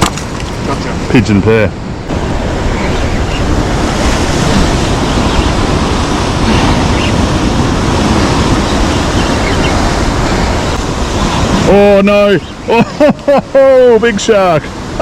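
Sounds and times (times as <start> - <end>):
ocean surf washing in: 0.0 - 15.0
wind buffeting microphone: 0.0 - 15.0.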